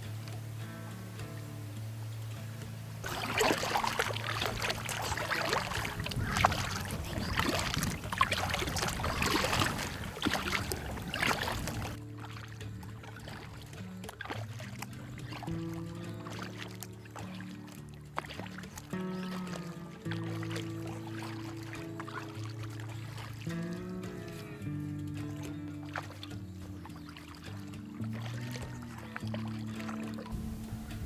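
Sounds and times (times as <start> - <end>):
quiet music: 0.0 - 31.0
paddle splashing in water: 1.2 - 31.0.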